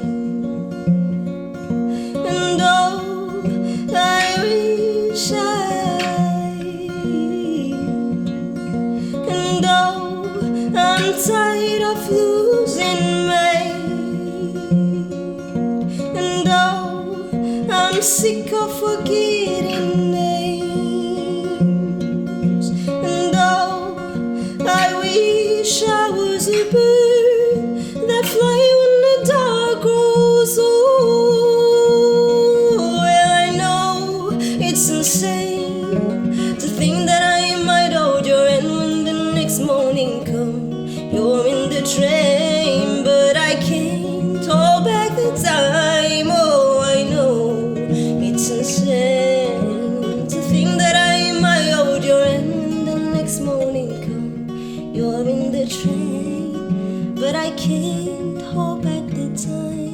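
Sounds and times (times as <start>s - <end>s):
acoustic guitar: 0.0s - 59.9s
woman singing: 0.0s - 59.9s.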